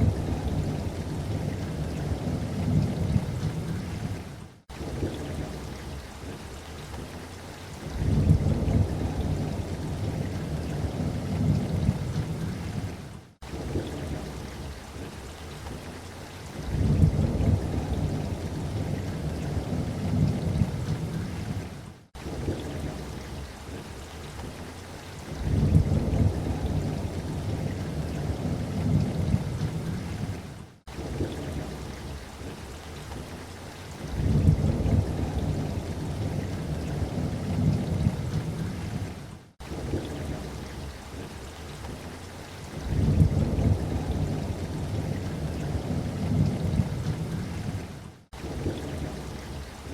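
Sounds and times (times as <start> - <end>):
rolling thunder: 0.0 - 6.0, 7.8 - 15.1, 16.6 - 23.8, 25.4 - 32.6, 34.1 - 41.3, 42.8 - 49.8
light rain: 0.0 - 49.9.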